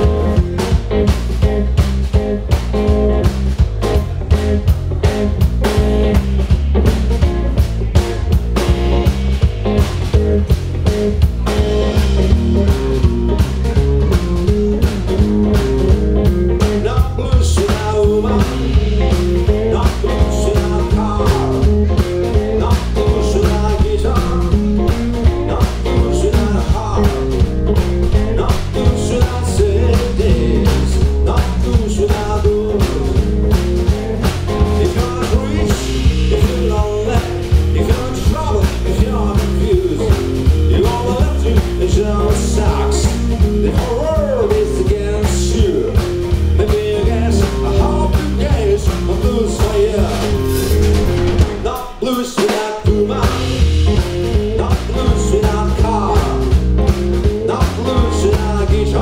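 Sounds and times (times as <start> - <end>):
blues-rock band playing: 0.0 - 59.0.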